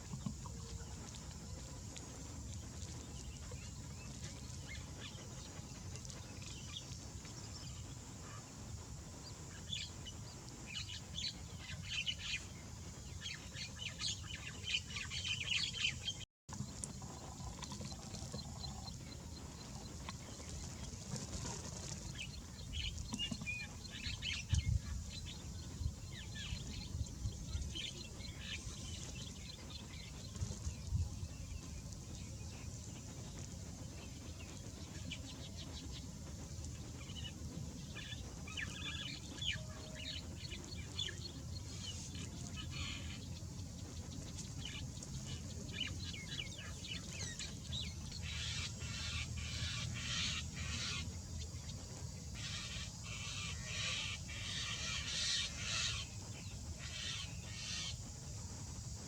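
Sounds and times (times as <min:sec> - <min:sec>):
birds chirping: 0:00.0 - 0:59.0
low steady rumble: 0:00.0 - 0:59.0.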